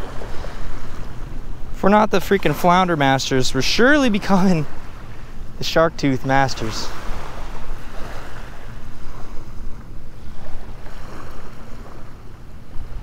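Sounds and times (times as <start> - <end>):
small waves lapping on sand: 0.0 - 13.0.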